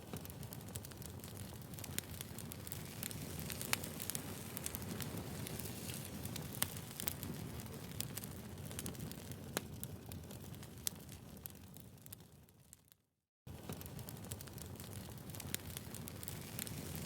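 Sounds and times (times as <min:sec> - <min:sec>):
flames rushing: 0:00.0 - 0:11.9, 0:13.5 - 0:17.0
fire crackles and pops: 0:00.0 - 0:17.0.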